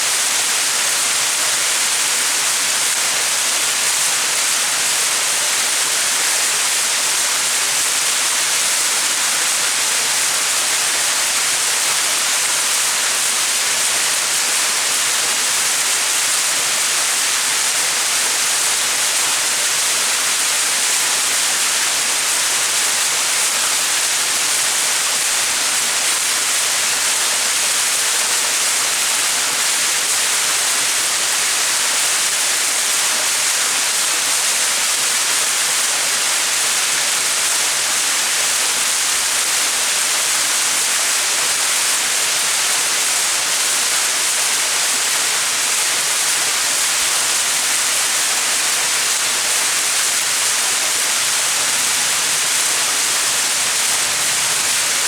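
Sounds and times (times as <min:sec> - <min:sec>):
waterfall splashing: 0:00.1 - 0:55.0.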